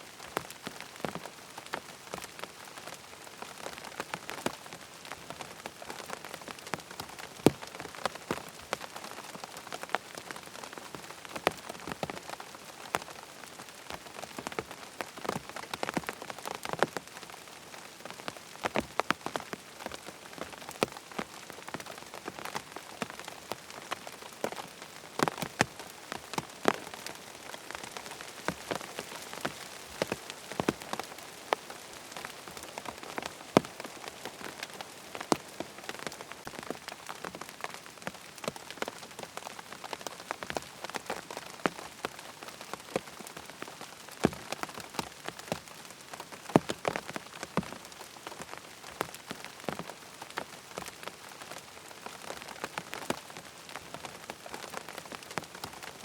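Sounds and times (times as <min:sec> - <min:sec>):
rain pattering on tent fabric: 0:00.0 - 0:56.0.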